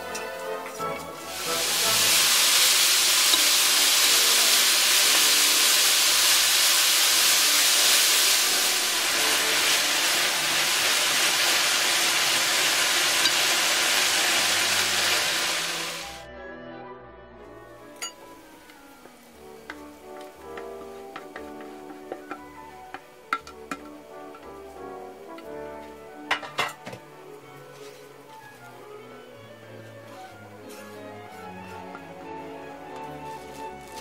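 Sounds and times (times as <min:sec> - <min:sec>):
meat sizzling in frying pan: 0:00.0 - 0:16.2, 0:19.1 - 0:28.6, 0:30.1 - 0:34.0
soft background music: 0:00.0 - 0:34.0.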